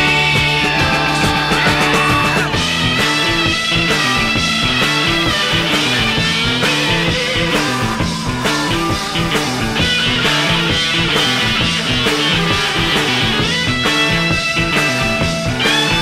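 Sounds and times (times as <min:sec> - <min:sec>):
rock music with guitars: 0:00.0 - 0:16.0.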